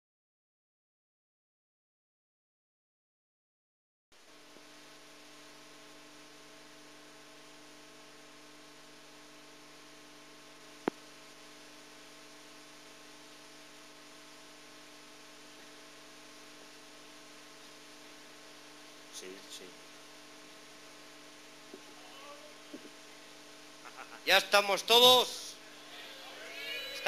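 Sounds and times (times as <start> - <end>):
electrical mains hum: 4.2 - 27.0.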